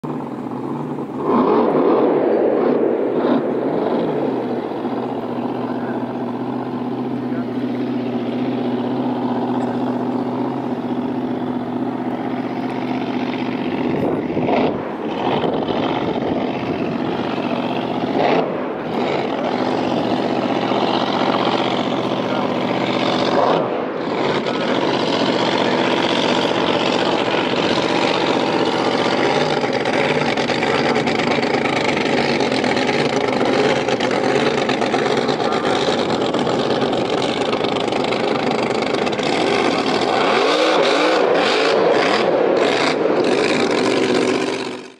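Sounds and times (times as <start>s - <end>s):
boat engine running: 0.0s - 44.9s.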